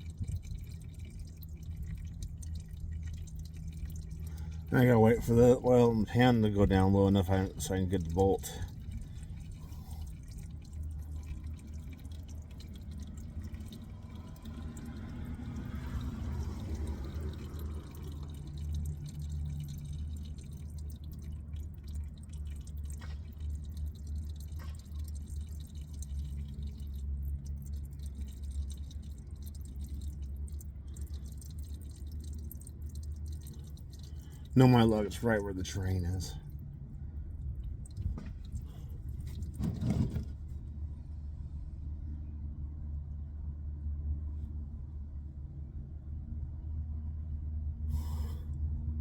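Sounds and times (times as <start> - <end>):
oil trickling and dripping: 0.0 - 42.2.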